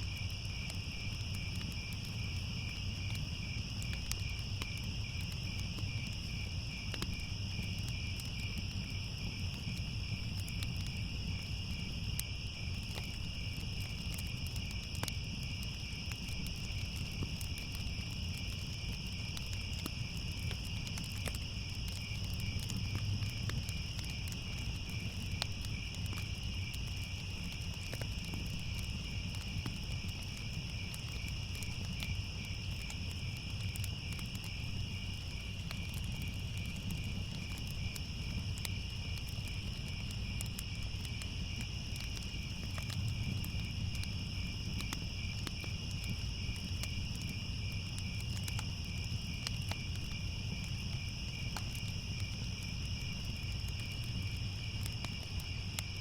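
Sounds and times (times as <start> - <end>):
crickets chirping: 0.0 - 56.0
fire crackling: 0.0 - 56.0
low rumble of fire: 0.0 - 56.0.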